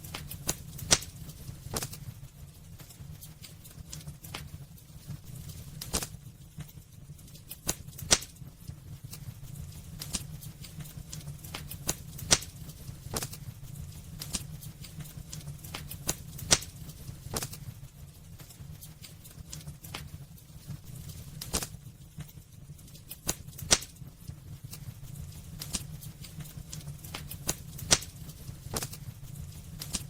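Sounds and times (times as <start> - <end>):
fire crackling and popping: 0.0 - 30.0
low rumble of flames: 0.0 - 30.0.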